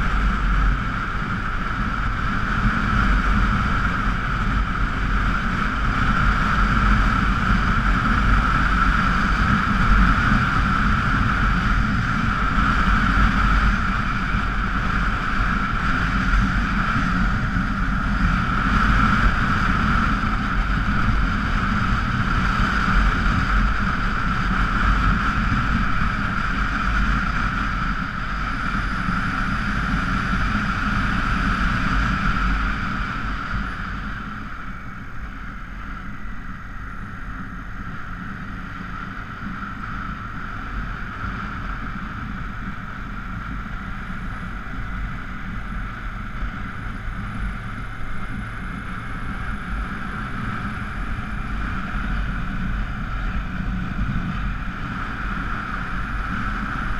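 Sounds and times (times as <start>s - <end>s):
motorcycle engine running: 0.0s - 56.9s
wind rush over microphone: 0.0s - 56.9s.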